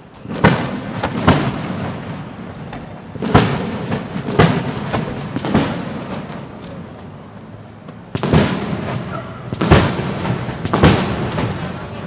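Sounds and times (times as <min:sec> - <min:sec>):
fireworks booming overhead: 0:00.0 - 0:12.0
rolling rumble: 0:00.0 - 0:12.0.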